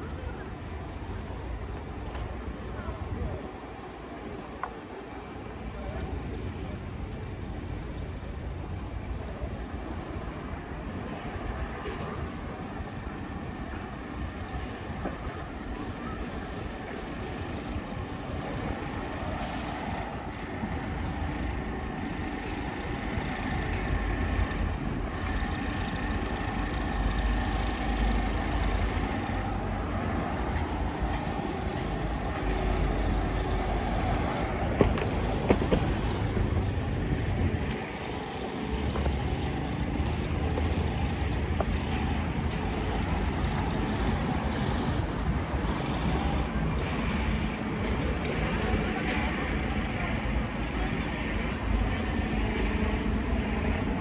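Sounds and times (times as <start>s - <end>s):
traffic rumble: 0.0s - 54.0s.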